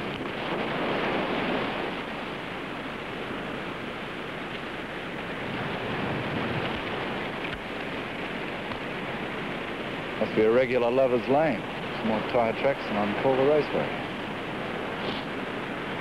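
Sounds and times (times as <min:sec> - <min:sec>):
surf: 0:00.0 - 0:16.0
wind: 0:00.0 - 0:16.0.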